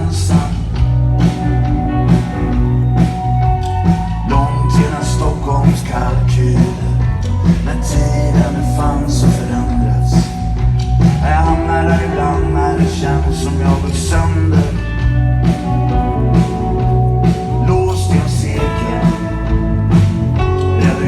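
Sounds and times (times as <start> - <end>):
blues-rock band playing: 0.0 - 21.0.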